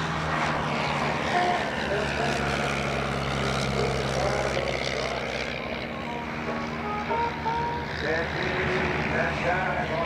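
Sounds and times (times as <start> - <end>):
propeller airplane engine drone: 0.0 - 10.0.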